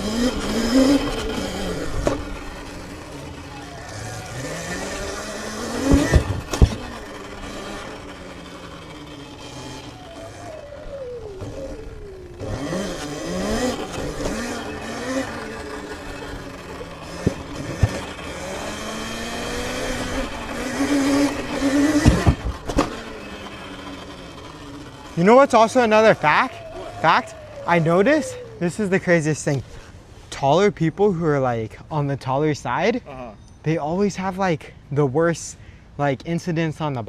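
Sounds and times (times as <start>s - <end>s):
electric motor whining: 0.0s - 30.2s.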